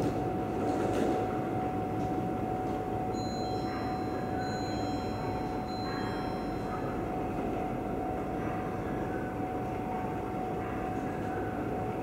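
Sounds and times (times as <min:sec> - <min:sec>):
constant high whine: 0:00.0 - 0:12.0.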